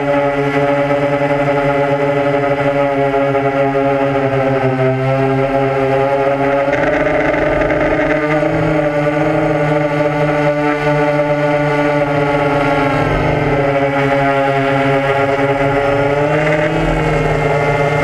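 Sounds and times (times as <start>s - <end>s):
drone propellers whirring: 0.2s - 18.0s.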